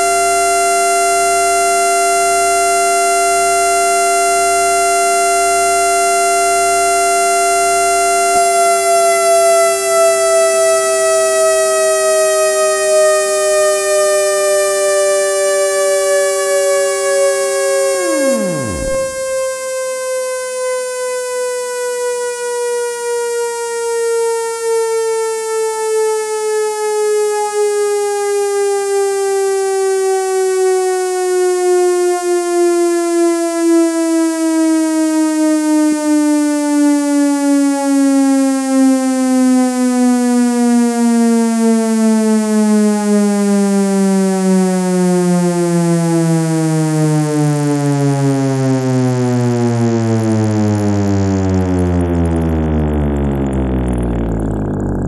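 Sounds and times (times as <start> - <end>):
siren winding down: 0.0 - 55.0.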